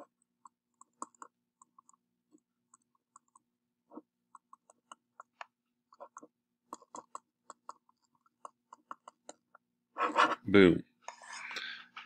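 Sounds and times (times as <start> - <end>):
pen writing on paper: 0.0 - 10.4.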